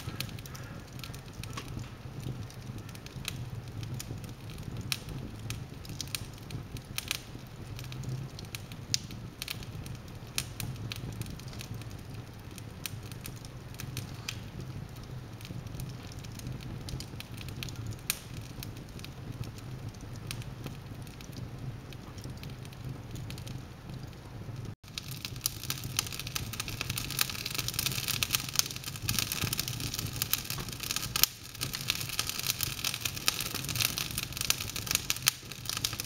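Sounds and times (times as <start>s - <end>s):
fire crackling and popping: 0.0s - 36.0s
fire flame rumble: 0.0s - 36.0s.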